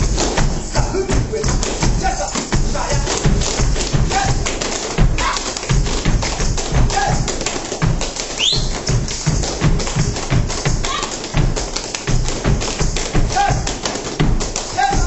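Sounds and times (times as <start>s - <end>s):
rubber boots slapping and stamping: 0.0s - 15.0s.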